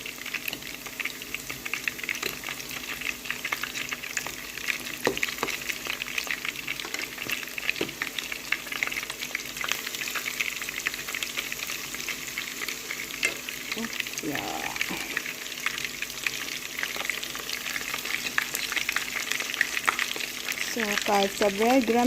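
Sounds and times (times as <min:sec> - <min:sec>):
chicken frying in hot oil: 0:00.0 - 0:22.0.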